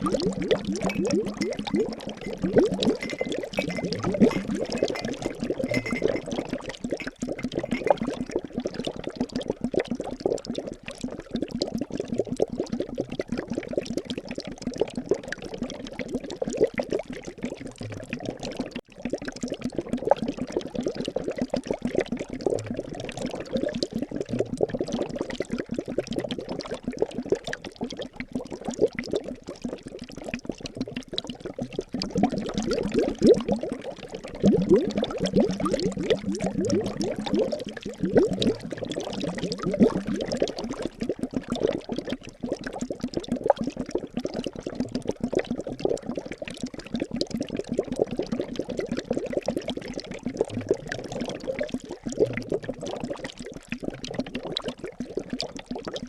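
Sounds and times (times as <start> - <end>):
liquid bubbling and gurgling: 0.0 - 56.0.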